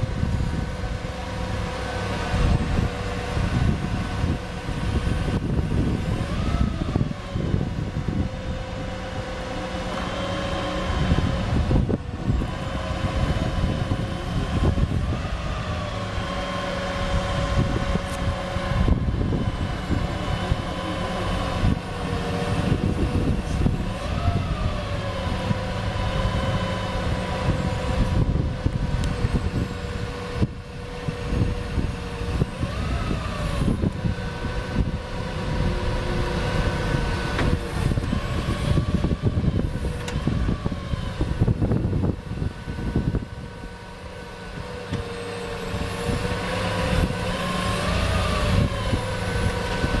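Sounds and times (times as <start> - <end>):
diesel engine rumble: 0.0 - 50.0
hydraulic pump whine: 0.0 - 50.0.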